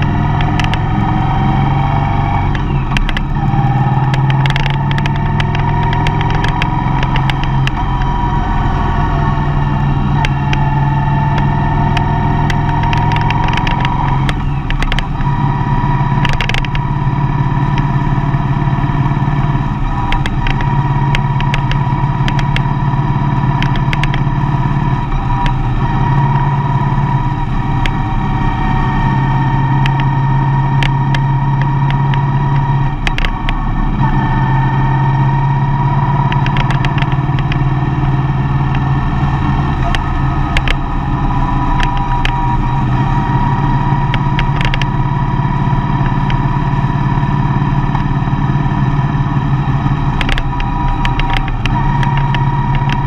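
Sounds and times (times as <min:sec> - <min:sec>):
sharp clicks: 0:00.0 - 0:01.4, 0:02.2 - 0:34.2, 0:35.9 - 0:53.0
vehicle engine driving: 0:00.0 - 0:53.0.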